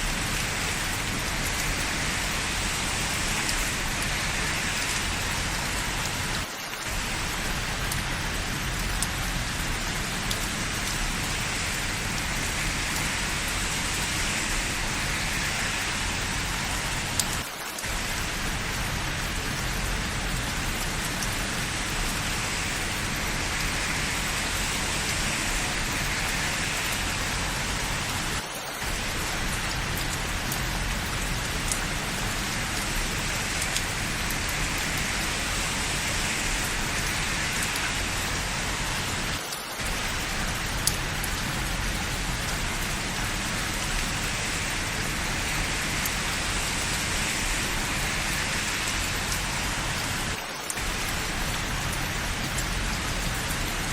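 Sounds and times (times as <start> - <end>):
rain falling: 0.0 - 53.9
faint raindrop ticks: 0.1 - 53.9.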